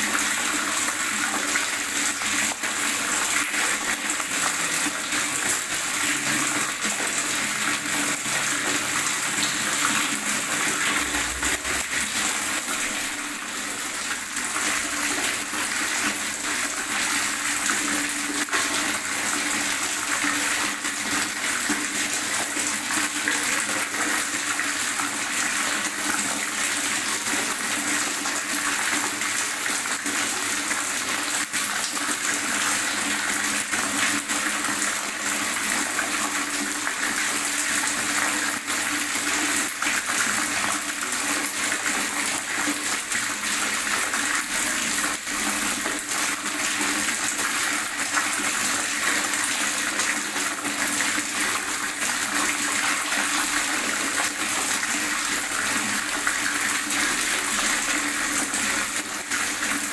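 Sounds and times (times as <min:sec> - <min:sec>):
water gurgling: 0:00.0 - 0:59.9.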